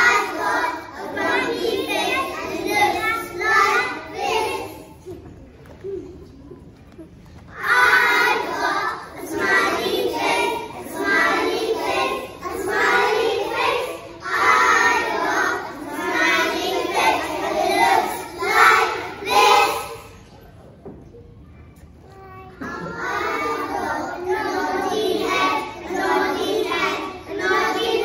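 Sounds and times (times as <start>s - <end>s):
young children singing: 0.0s - 21.2s, 21.8s - 28.0s.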